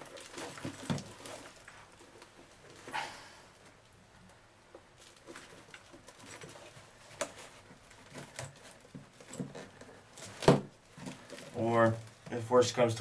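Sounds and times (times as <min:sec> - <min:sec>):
rustling of plastic and cloth: 0:00.0 - 0:13.0.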